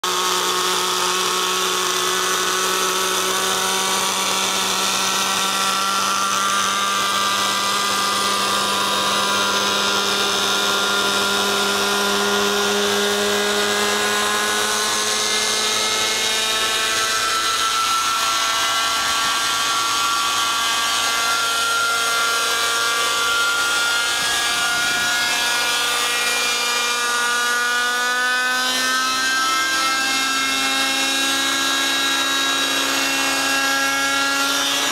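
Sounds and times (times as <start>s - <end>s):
model helicopter engine: 0.0s - 34.9s.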